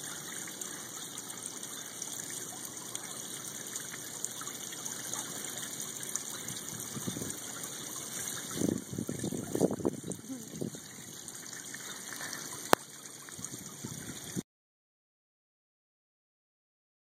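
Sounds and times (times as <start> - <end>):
pond water trickling: 0.0 - 14.4.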